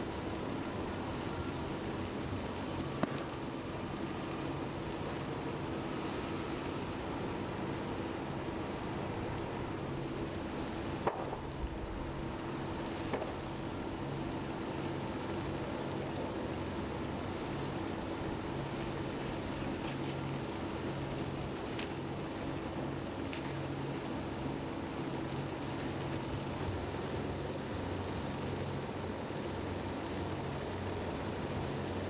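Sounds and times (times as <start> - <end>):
fire engine pumps droning: 0.0 - 32.0
large fire burning: 0.0 - 32.0.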